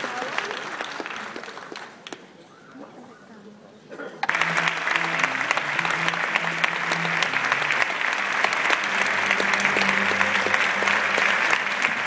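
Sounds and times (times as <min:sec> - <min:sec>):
audience applauding: 0:00.0 - 0:02.2, 0:04.2 - 0:12.0.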